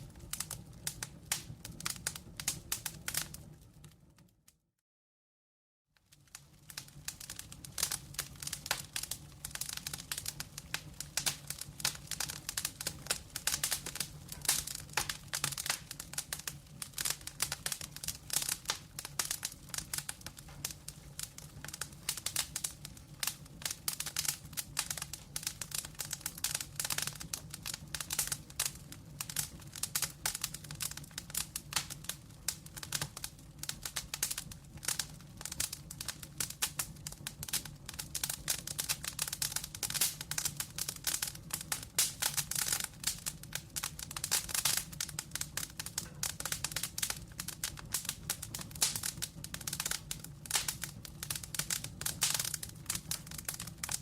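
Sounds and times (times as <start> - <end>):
fireplace logs crackling and popping: 0.0 - 4.4, 6.0 - 54.0.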